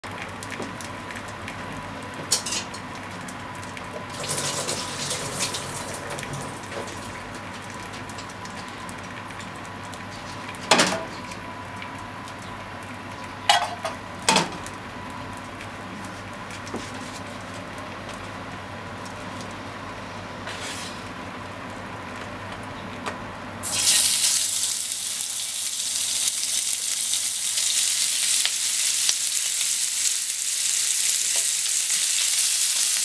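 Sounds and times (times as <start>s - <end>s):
steady background hum: 0.0s - 32.2s
oil crackling sizzle: 0.0s - 33.0s.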